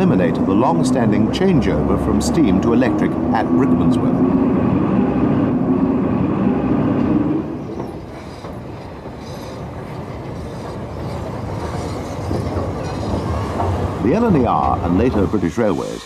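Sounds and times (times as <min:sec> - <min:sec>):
train running on track: 0:00.0 - 0:16.0.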